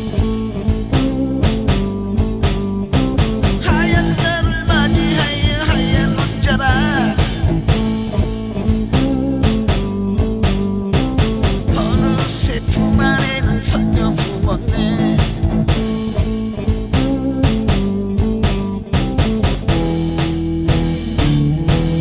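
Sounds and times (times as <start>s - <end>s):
steady drum beat: 0.0s - 22.0s
sustained bass and chords: 0.0s - 22.0s
wavering lead guitar line: 0.0s - 22.0s.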